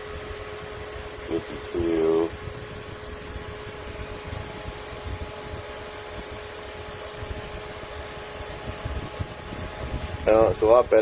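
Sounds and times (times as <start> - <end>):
cooler fan whirring: 0.0 - 11.0.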